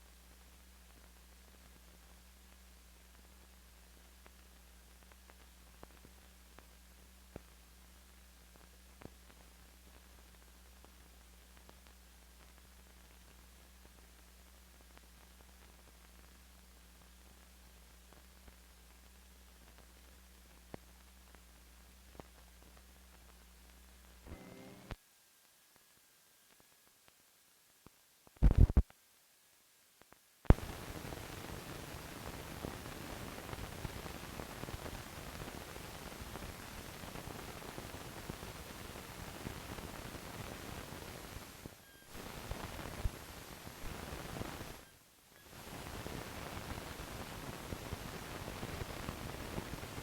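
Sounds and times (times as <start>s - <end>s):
static hiss with crackle: 0.0s - 50.0s.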